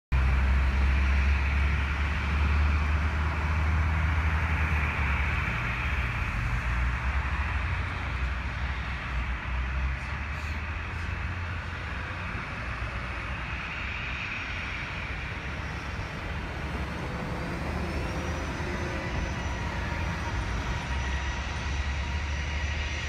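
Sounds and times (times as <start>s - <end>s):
distant turboprop engines droning: 0.1s - 23.0s.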